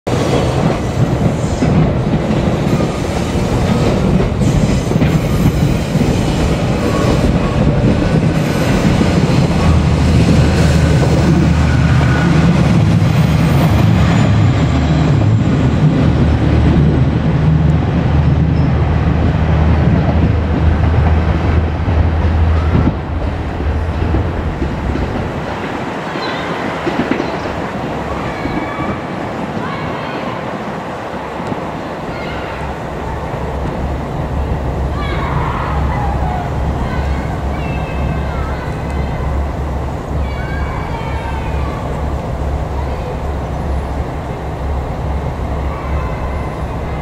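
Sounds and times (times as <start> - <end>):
low train hum: 0.1 - 47.0.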